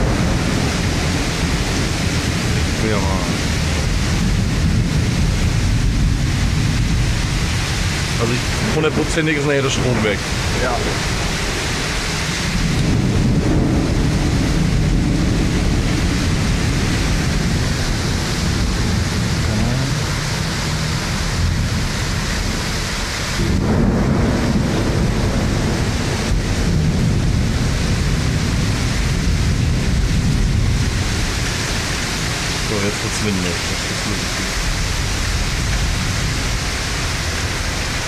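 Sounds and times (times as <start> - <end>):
heavy rain downpour: 0.0 - 38.0
rolling thunder: 0.0 - 38.0.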